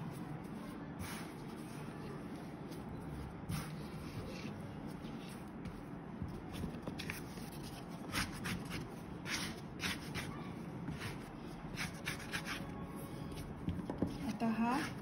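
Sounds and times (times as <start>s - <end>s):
dough scraping and rubbing on mat: 0.0s - 12.7s.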